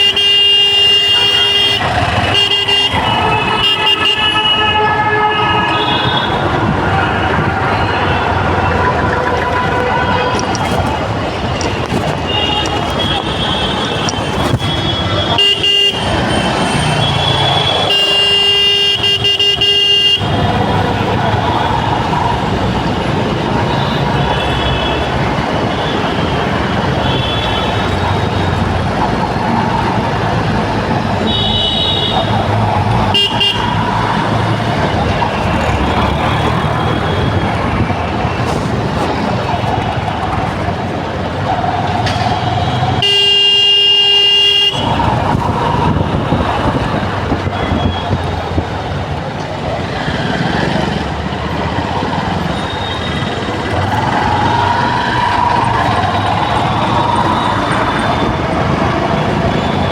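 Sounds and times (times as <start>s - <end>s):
traffic engine din: 0.0s - 59.9s.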